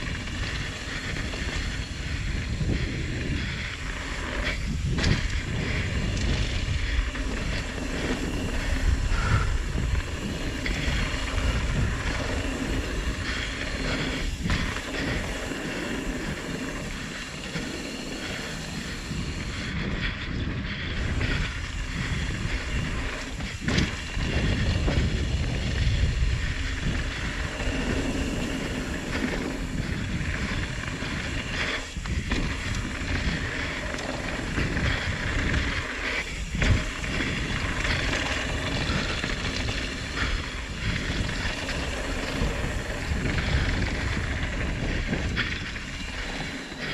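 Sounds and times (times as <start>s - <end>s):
bike rattling: 0.0s - 46.9s
wind and tyres rumbling: 0.0s - 46.9s.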